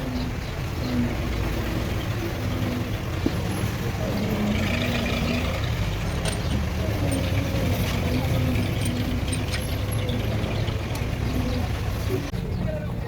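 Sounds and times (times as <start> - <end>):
low engine idling rumble: 0.0 - 13.0.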